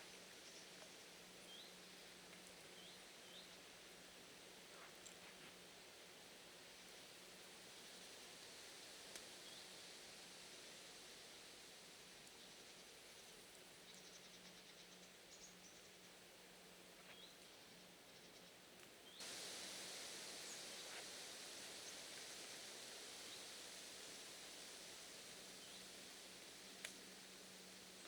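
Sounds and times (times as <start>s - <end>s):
woodland hiss: 0.0s - 28.0s.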